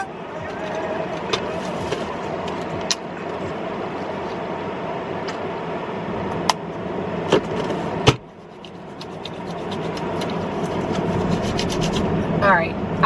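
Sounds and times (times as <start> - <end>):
road noise inside car: 0.0 - 13.0.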